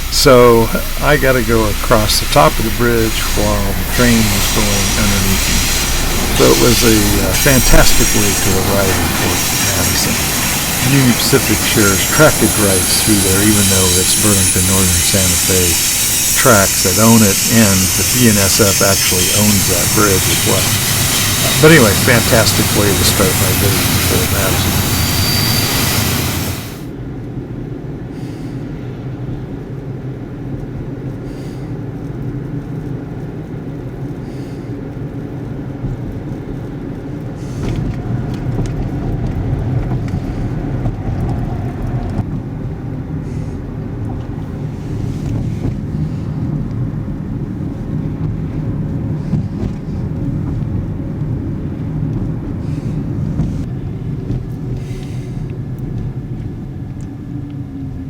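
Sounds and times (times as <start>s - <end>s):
rumble of vehicle traffic: 0.0s - 58.0s.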